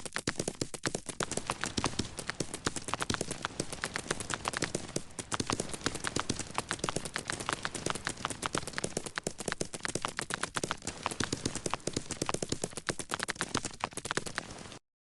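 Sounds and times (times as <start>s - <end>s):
rapid sharp clicks: 0.0s - 14.8s.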